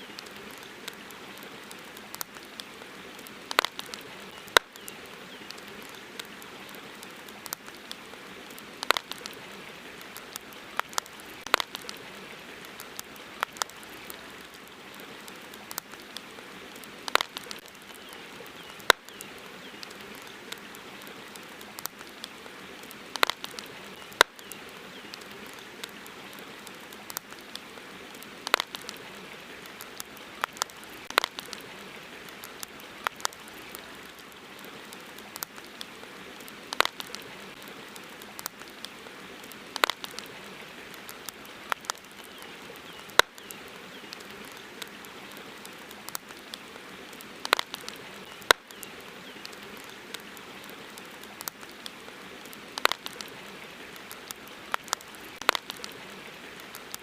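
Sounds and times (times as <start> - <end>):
campfire crackling and popping: 0.0 - 57.0
steady hiss: 0.0 - 57.0.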